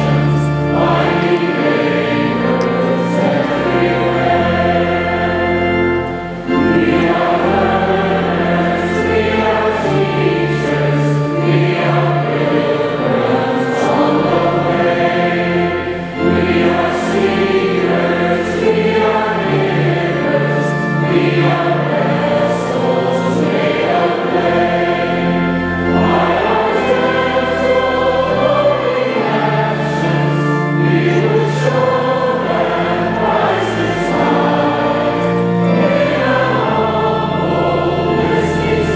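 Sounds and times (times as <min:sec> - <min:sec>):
congregation singing a hymn: 0:00.0 - 0:38.9
sustained organ bass notes: 0:00.0 - 0:38.9.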